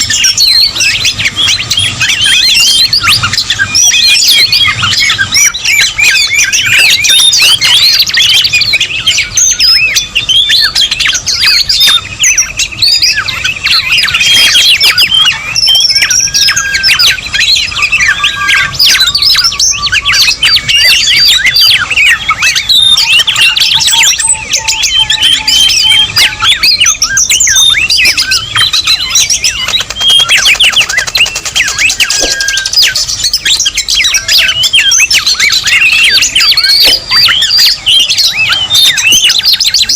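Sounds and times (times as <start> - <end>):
many birds chirping and squawking: 0.0 - 39.9.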